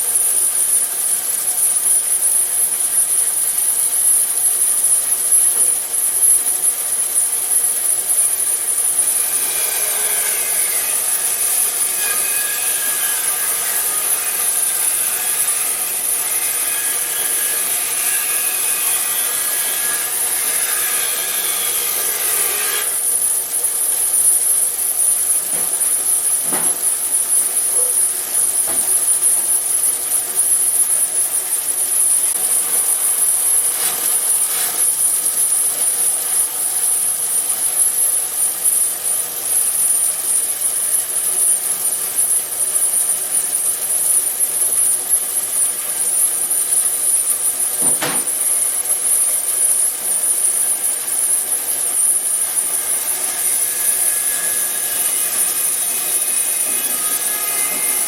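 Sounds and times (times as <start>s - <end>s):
band saw cutting wood: 7.6s - 58.0s.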